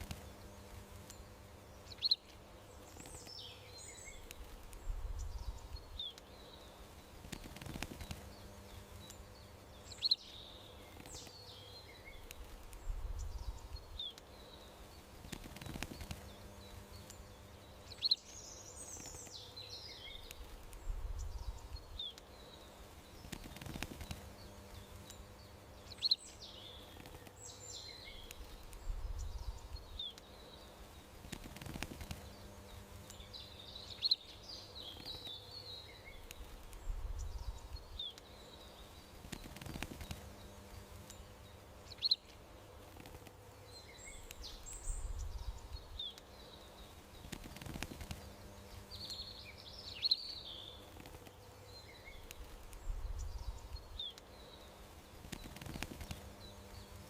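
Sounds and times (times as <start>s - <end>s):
faint steady hum: 0.0s - 57.0s
garden birds chirping: 0.0s - 57.0s.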